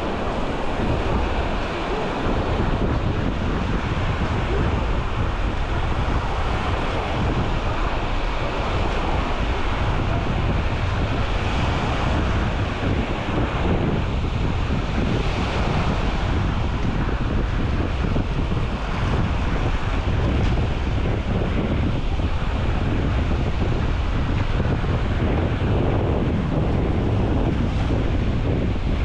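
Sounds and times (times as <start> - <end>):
small waves breaking on shore: 0.0 - 29.0
wind buffeting microphone: 0.0 - 29.0.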